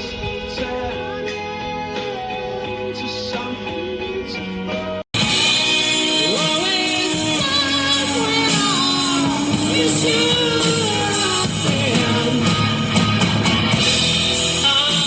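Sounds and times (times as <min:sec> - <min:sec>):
rock song with singer: 0:00.0 - 0:15.0.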